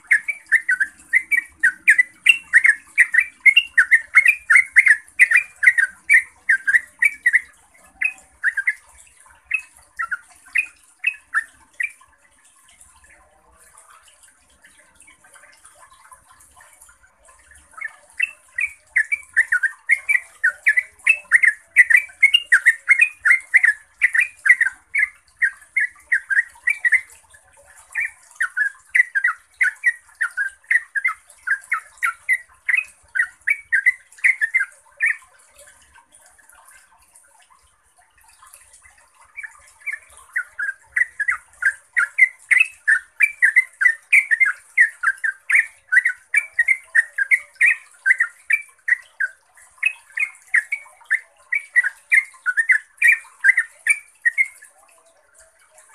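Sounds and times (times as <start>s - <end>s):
bird chattering song: 0.0s - 12.1s, 16.1s - 35.7s, 38.8s - 54.8s.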